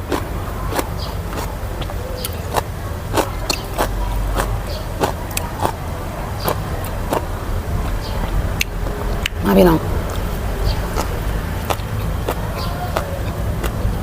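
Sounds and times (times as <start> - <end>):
crunching and chewing: 0.0 - 9.4, 10.0 - 14.0
steady low rumble: 0.0 - 14.0.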